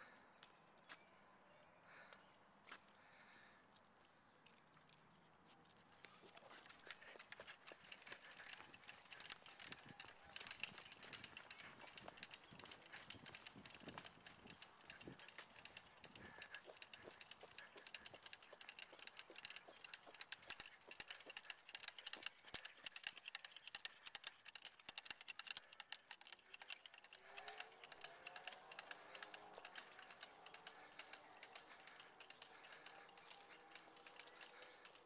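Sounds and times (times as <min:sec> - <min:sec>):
cart wheels rattling on concrete: 0:06.1 - 0:35.0.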